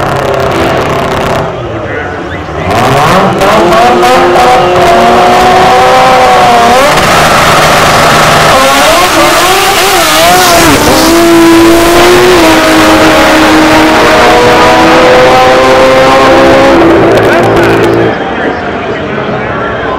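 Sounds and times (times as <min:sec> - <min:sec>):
drag car engine revving: 0:00.0 - 0:19.9.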